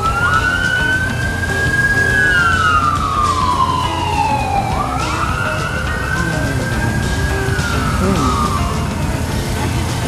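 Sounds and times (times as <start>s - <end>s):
emergency siren wailing: 0.0s - 10.0s
low rumble of street noise: 0.0s - 10.0s.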